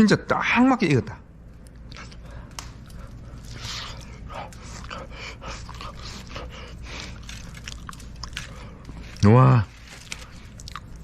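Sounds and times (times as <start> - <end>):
wood fire crackling: 1.0 - 11.0
person chewing: 1.6 - 11.0.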